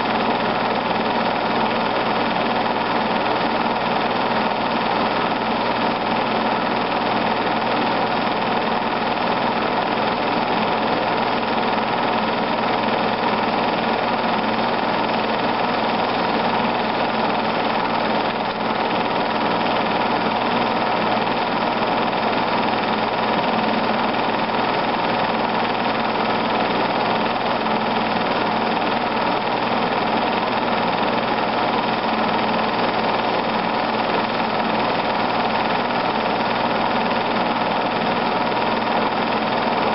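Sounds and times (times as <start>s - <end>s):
film projector whir and clatter: 0.0s - 39.9s.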